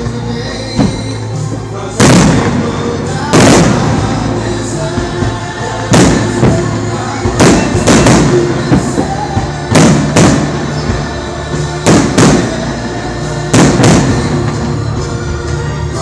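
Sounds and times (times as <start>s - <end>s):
fireworks bursting with bangs: 0.0s - 16.0s
music playing: 0.0s - 16.0s.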